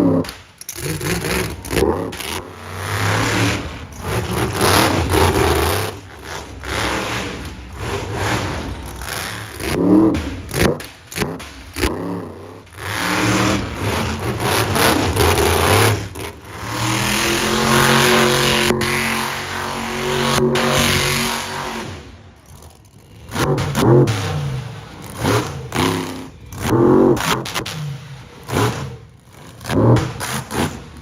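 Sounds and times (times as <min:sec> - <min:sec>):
truck engine revving hard: 0:00.0 - 0:31.0.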